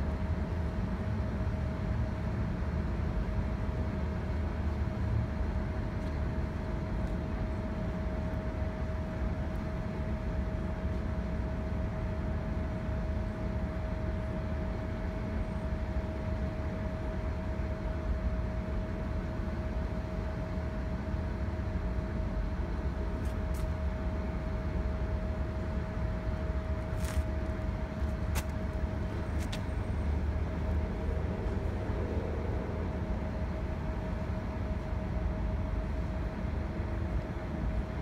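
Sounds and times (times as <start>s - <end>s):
constant high whine: 0.0s - 38.0s
bus engine idling: 0.2s - 38.0s.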